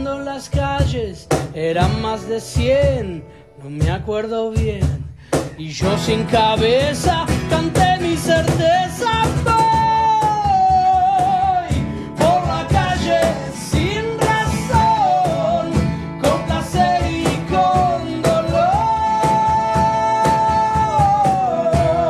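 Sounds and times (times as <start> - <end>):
acoustic bass guitar: 0.0 - 22.0
cajon beat: 0.0 - 22.0
man singing: 0.0 - 22.0
strummed acoustic guitars: 0.0 - 22.0.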